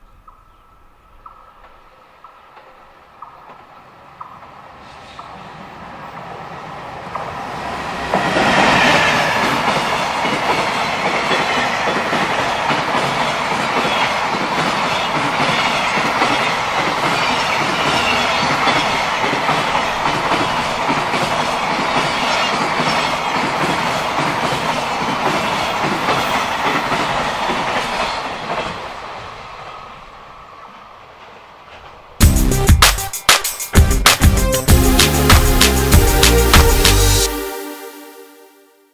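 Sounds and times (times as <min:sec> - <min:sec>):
electric locomotive whine: 0:00.0 - 0:32.2
train wheels clickety-clack: 0:00.1 - 0:29.5, 0:31.0 - 0:36.8.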